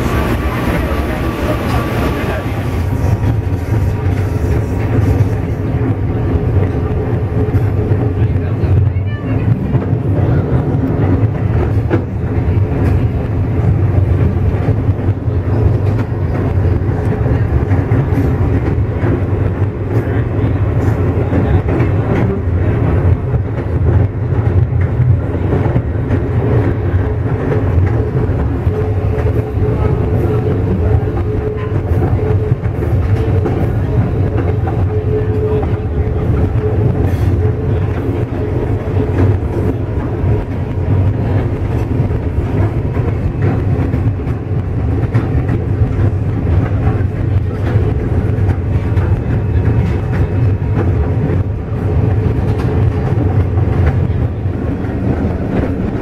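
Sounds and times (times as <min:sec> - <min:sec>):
locomotive engine rumbling: 0:00.0 - 0:56.0.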